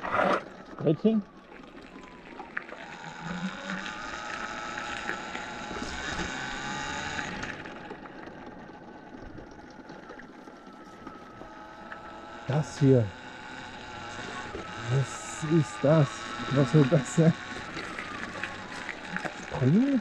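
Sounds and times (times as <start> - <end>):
tyres rolling on gravel: 0.0 - 20.0
electric dirt bike motor whining: 1.4 - 20.0.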